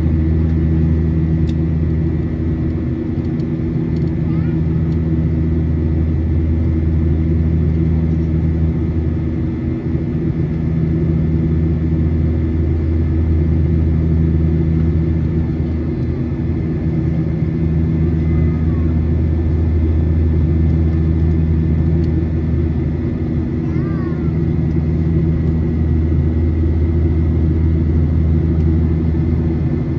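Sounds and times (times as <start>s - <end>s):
jet engine drone in cabin: 0.0s - 29.9s.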